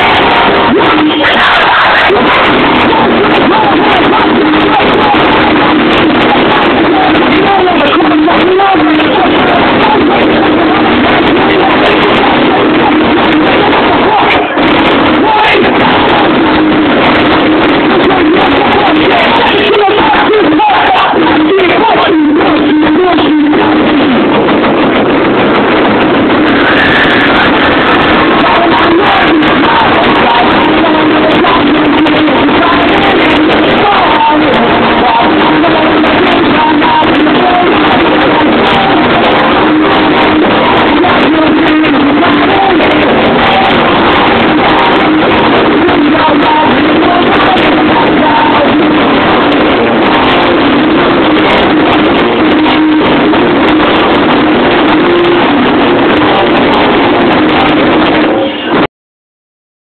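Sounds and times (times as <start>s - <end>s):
live punk rock band: 0.0s - 58.9s.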